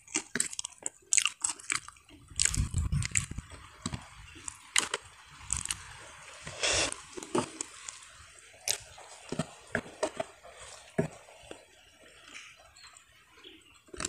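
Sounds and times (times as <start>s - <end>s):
crunchy rustle: 0.0s - 12.6s
chewing: 0.0s - 14.0s.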